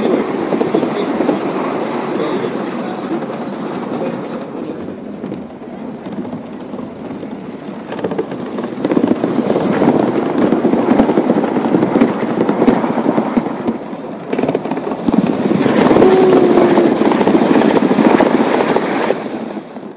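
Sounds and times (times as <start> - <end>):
model train rumbling: 0.0 - 19.9
wheels clicking on track: 0.0 - 19.9.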